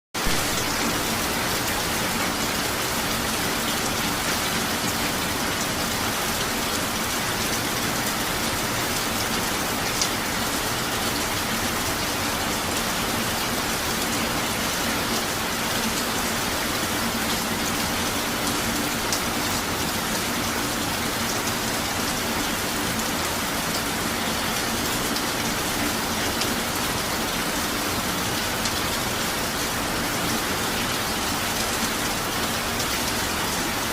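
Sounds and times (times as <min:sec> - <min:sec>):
steady rain: 0:00.2 - 0:33.9.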